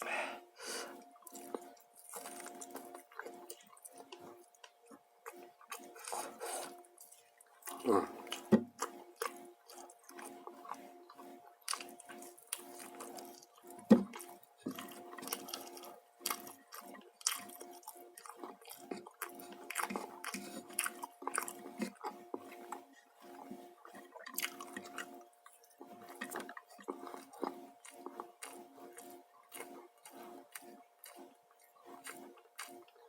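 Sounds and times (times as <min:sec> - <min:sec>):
person chewing and biting: 0:00.0 - 0:33.0.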